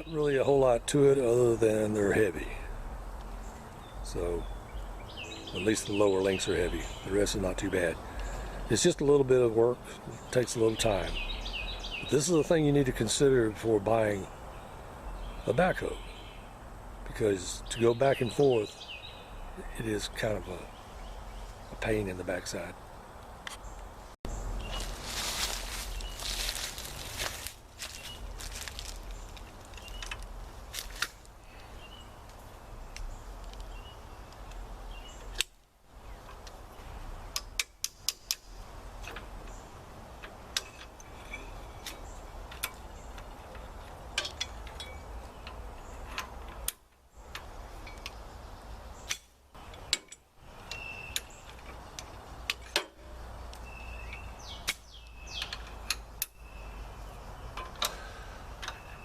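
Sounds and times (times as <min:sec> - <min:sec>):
birds chirping faintly: 0:00.0 - 0:59.0.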